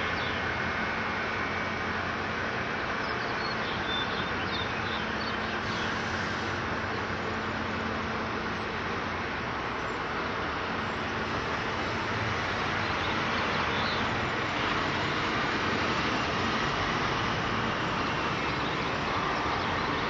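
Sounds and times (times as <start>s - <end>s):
road traffic hiss: 0.0s - 20.0s.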